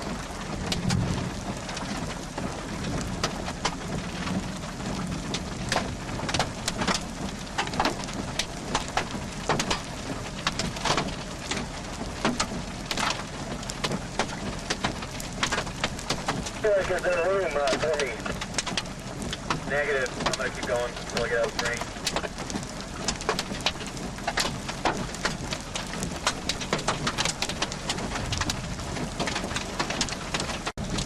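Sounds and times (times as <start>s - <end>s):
heavy rain hiss: 0.0s - 31.0s
large raindrops striking: 0.0s - 31.0s.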